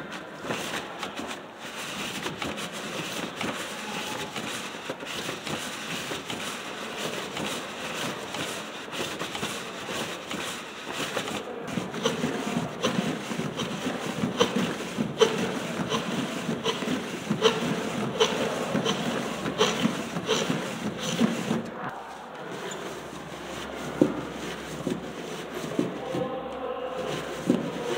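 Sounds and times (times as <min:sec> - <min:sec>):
steady rustle: 0:00.0 - 0:27.9
cardboard mechanism rubbing and clicking: 0:00.1 - 0:27.9.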